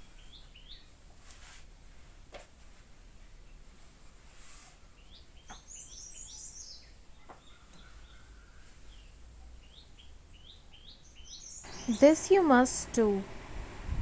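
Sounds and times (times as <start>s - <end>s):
small birds chirping: 0.0s - 1.0s, 3.2s - 13.4s
faint steady hiss: 0.0s - 14.0s.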